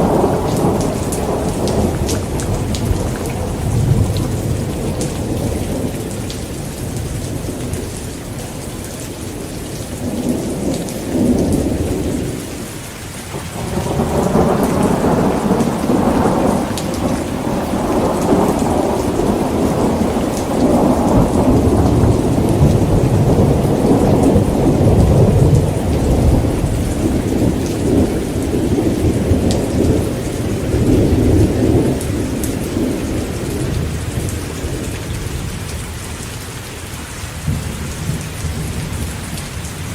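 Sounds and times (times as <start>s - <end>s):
thunder rumbling: 0.0s - 12.7s, 13.3s - 35.9s
heavy rain falling: 0.0s - 39.9s.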